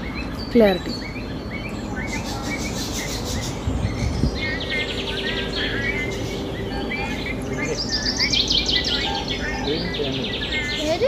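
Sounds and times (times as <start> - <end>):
birds chirping and trilling: 0.0 - 11.0
steady background noise: 0.0 - 11.0.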